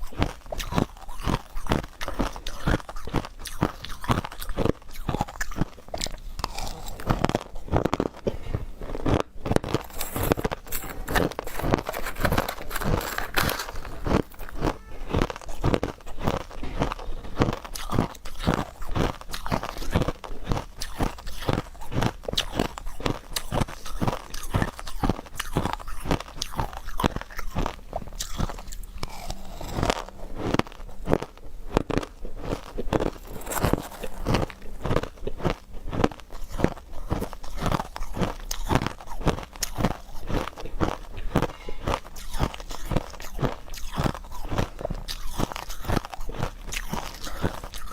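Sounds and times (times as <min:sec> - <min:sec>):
chewing ice crunches: 0:00.0 - 0:47.9.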